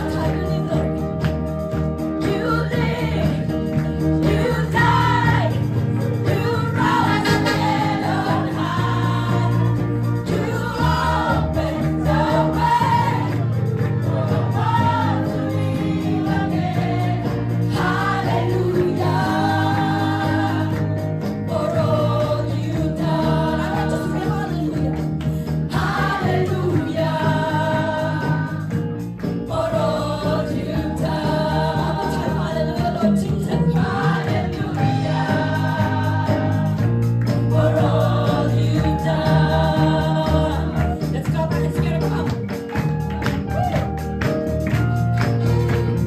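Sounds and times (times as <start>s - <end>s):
gospel choir singing: 0.0s - 42.8s
instrumental backing with bass: 0.0s - 46.0s
rhythmic hand claps: 0.0s - 46.0s.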